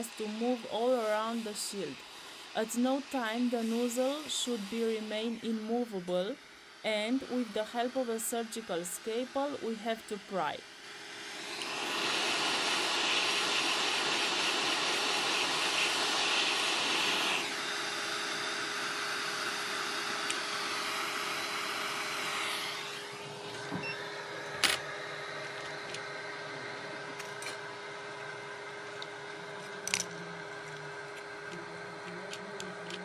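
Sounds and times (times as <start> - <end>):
hot air blower hissing: 0.0 - 33.0.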